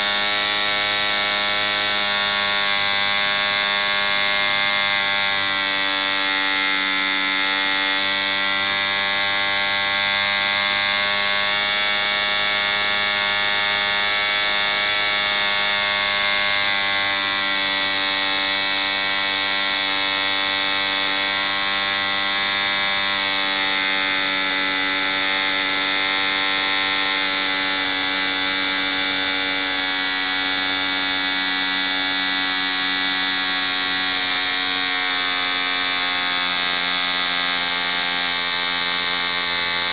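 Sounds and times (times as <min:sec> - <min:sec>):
model engine running: 0:00.0 - 0:39.9.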